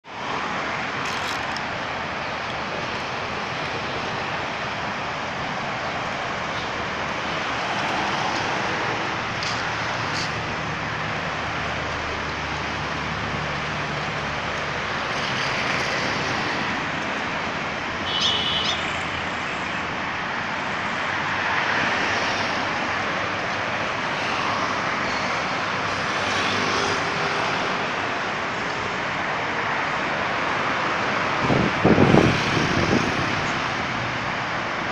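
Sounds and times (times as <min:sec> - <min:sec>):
road traffic: 0:00.0 - 0:34.9.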